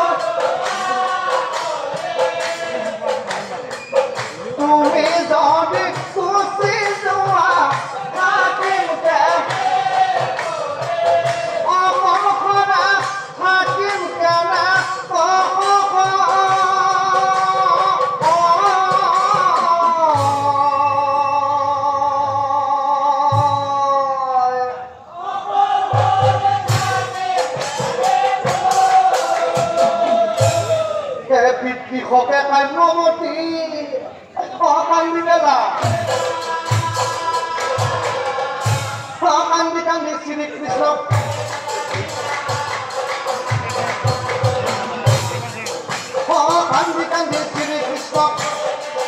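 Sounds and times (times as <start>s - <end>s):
men singing in chorus: 0.0s - 23.7s, 25.1s - 31.6s, 34.6s - 49.0s
man singing lead: 0.0s - 49.0s.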